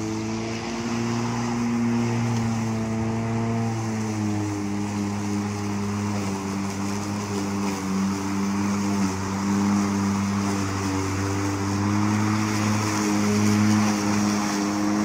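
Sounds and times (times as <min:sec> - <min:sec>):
electric lawn mower running: 0:00.0 - 0:15.0.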